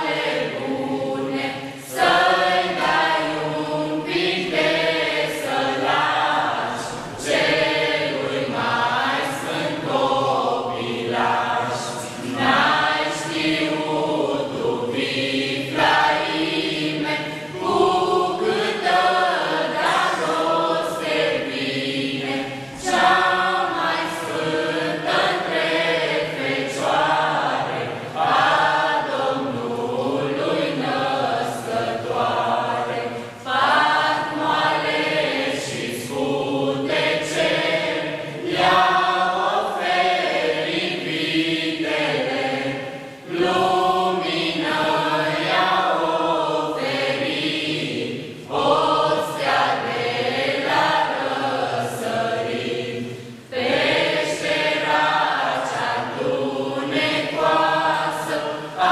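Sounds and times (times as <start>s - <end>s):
youth choir singing a carol: 0.0s - 58.9s.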